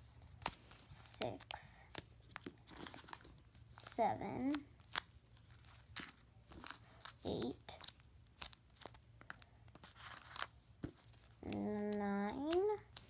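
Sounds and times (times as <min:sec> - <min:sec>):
paper squishies rustling and crackling: 0:00.0 - 0:13.0.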